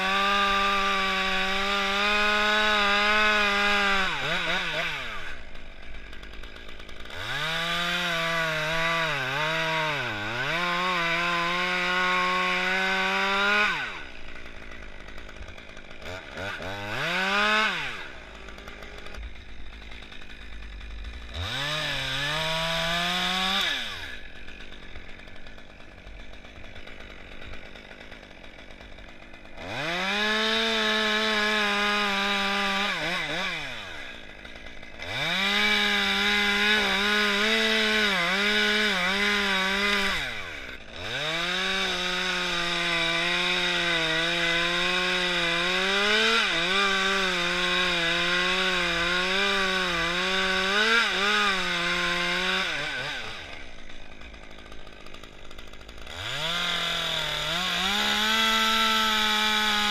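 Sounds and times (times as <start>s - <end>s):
chainsaw cutting wood: 0.0s - 59.9s
chainsaw revving and idling: 0.0s - 59.9s.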